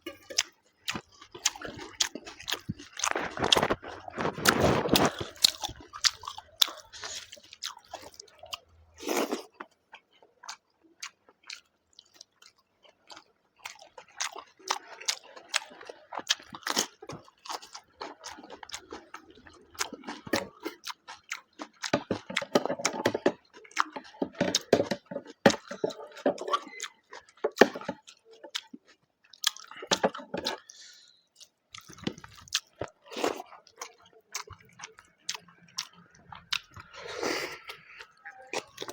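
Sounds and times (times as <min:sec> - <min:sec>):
wet chewing and mouth clicks: 0:00.1 - 0:38.9.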